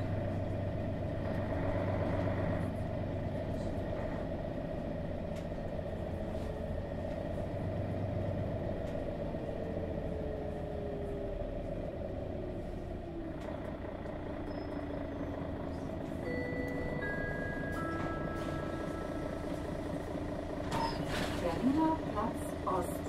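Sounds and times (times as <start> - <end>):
bus diesel engine drone: 0.0 - 23.0.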